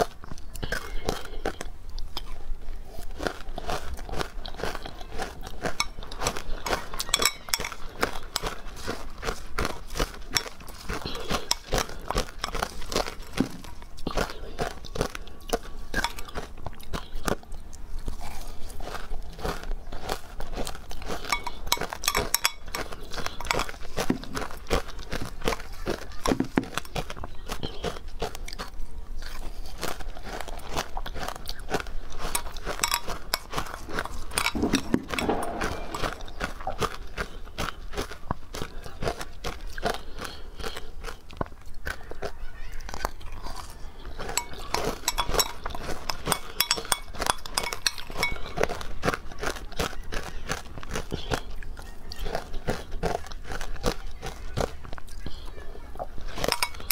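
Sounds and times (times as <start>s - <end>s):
crunching and chewing ice: 0.0s - 56.9s.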